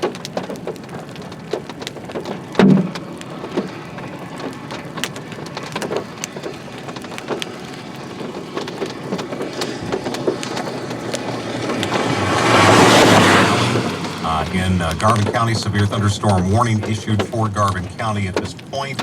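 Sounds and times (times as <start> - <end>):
rain patter: 0.0 - 19.0
sharp ticks of raindrops: 0.0 - 19.0.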